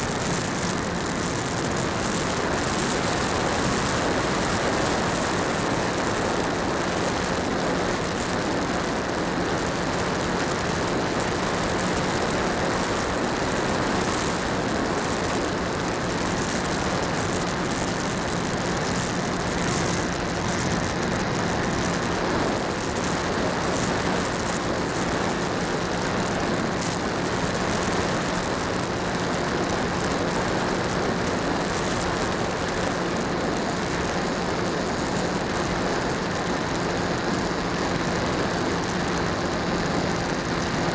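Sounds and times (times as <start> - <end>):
electric motor and propeller hum: 0.0 - 40.9.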